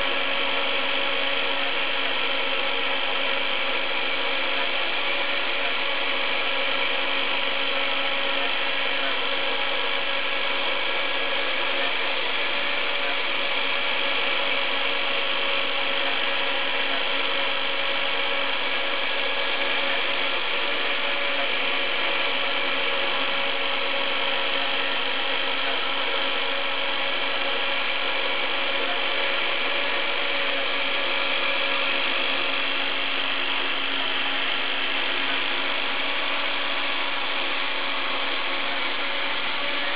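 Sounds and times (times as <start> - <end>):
router motor high whine: 0.0 - 39.9.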